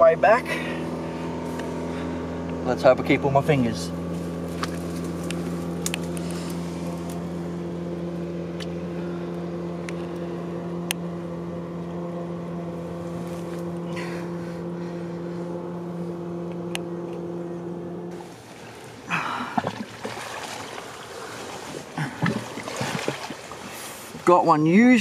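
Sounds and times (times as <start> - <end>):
motorboat engine droning: 0.0 - 25.0.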